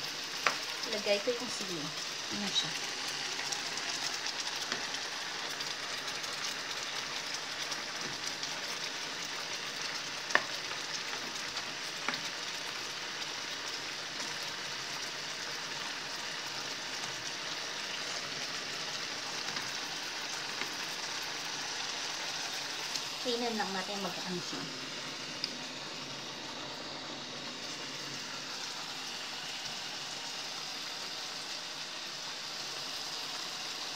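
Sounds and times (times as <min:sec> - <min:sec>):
sauce sizzling in frying pan: 0:00.0 - 0:33.9.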